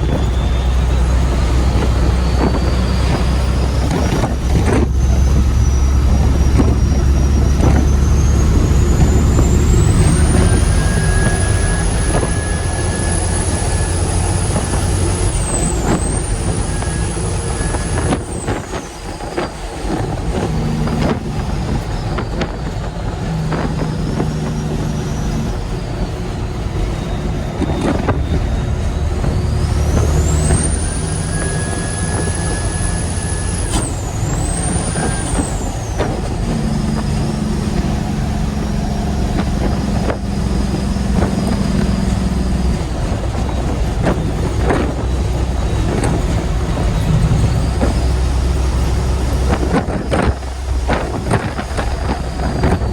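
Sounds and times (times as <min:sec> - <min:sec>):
high engine whine: 0:00.0 - 0:52.9
truck diesel engine running: 0:00.0 - 0:52.9.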